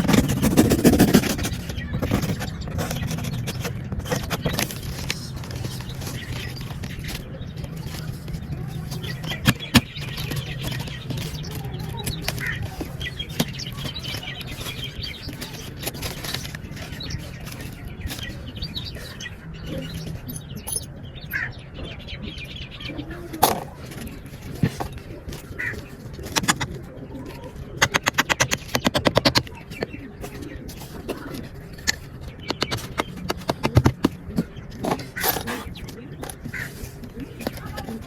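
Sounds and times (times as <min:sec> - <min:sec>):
pigeons fluttering: 0:00.0 - 0:20.6, 0:22.6 - 0:38.0
pigeon calls: 0:00.0 - 0:38.0.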